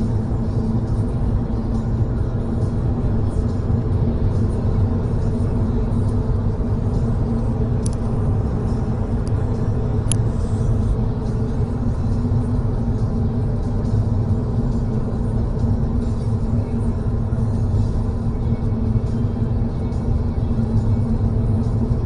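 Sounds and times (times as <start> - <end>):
car driving at highway speed: 0.0 - 22.0.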